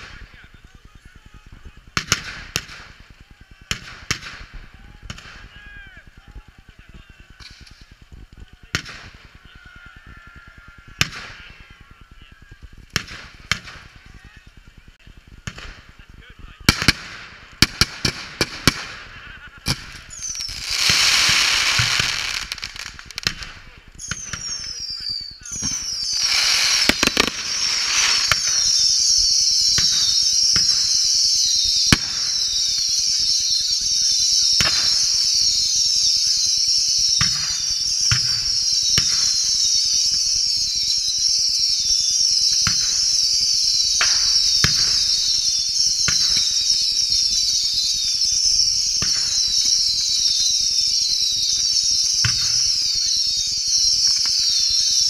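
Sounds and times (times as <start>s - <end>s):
firework bangs: 0.0s - 55.0s
fireworks hissing and crackling: 0.0s - 55.0s
whistling fireworks: 0.0s - 55.0s.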